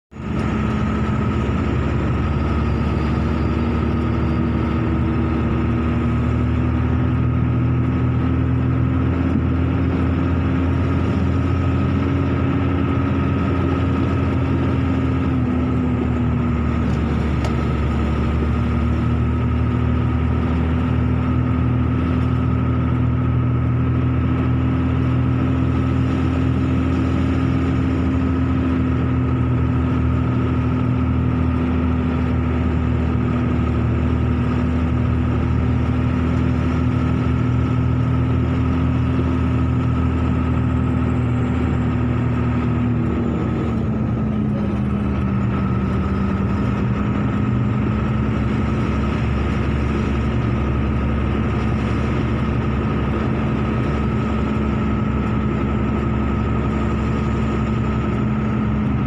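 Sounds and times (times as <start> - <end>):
car engine running: 0.1 - 59.0
tyre and road noise: 0.1 - 59.0.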